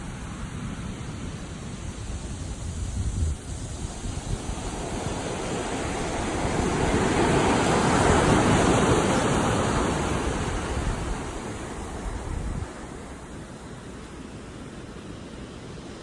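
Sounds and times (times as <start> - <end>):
ocean waves on shore: 0.0 - 16.0.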